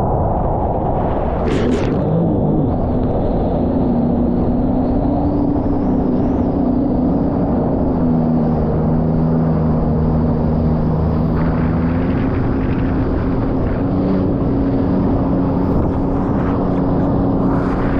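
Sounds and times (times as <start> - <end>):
wind and water rushing: 0.0 - 17.9
jet ski engine running: 1.5 - 17.9.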